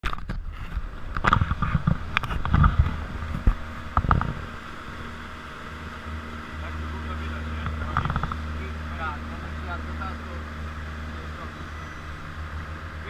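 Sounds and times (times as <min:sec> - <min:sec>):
low thumps and crackles: 0:00.0 - 0:11.3
motorboat engine humming: 0:00.1 - 0:13.0.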